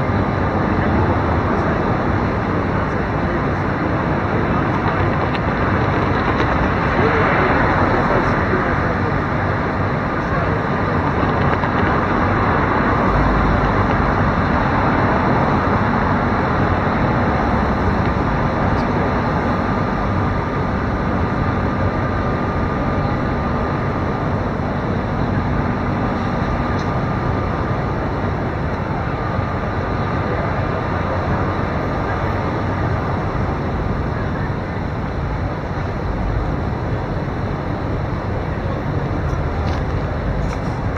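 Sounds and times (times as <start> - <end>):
city traffic noise: 0.0 - 40.9
low hum: 0.0 - 40.9
thin steady whine: 0.0 - 40.9.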